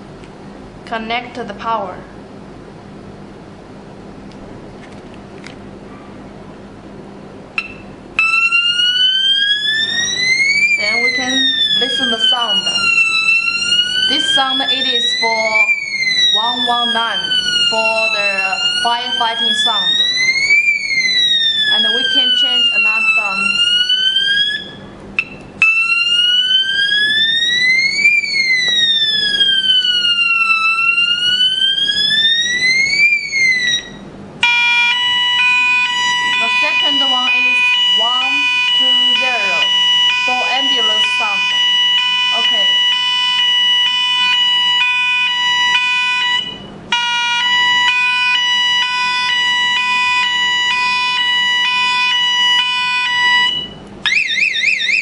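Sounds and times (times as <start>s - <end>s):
electronic siren wailing: 7.6s - 55.0s.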